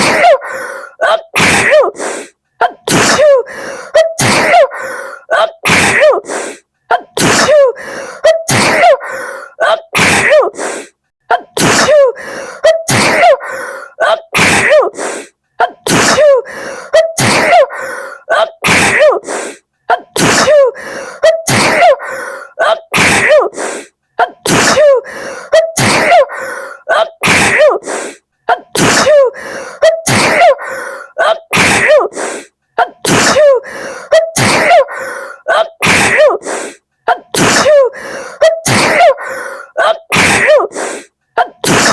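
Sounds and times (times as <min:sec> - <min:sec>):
woman sneezing: 0:00.0 - 0:41.9.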